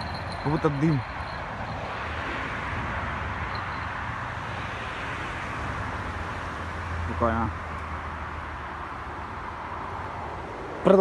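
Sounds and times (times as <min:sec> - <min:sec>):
rushing ambient noise: 0:00.0 - 0:11.0.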